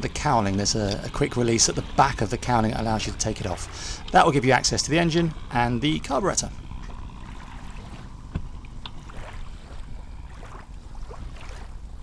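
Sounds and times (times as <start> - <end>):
outboard cowling clicks: 0.0 - 11.8
water around dinghy: 0.0 - 12.0
wind: 0.0 - 12.0.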